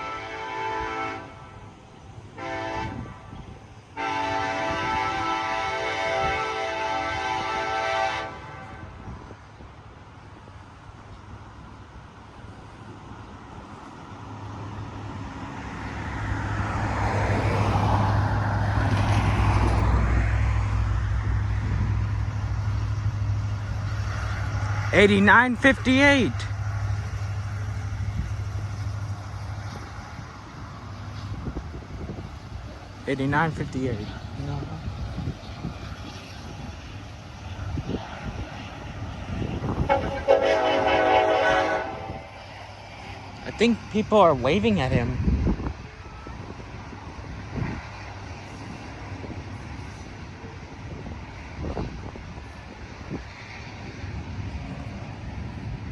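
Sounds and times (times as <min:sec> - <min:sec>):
locomotive engine rumble: 0:00.0 - 0:55.9.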